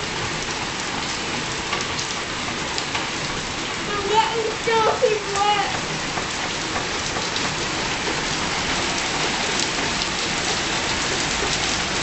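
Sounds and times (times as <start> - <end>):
heavy rain on stone: 0.0 - 12.0.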